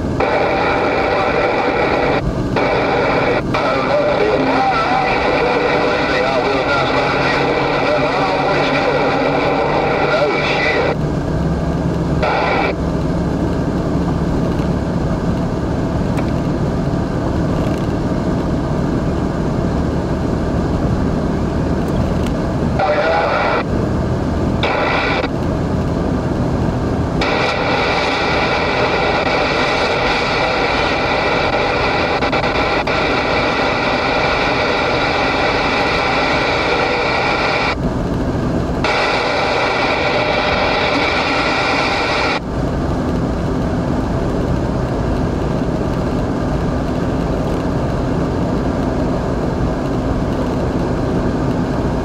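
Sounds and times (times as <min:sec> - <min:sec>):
car driving at highway speed: 0:00.0 - 0:52.0
hissy road noise: 0:00.0 - 0:52.0.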